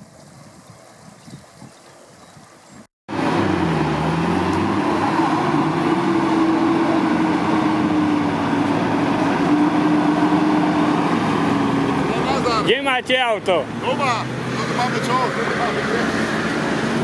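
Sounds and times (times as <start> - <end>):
suv engine revving: 3.1 - 17.0.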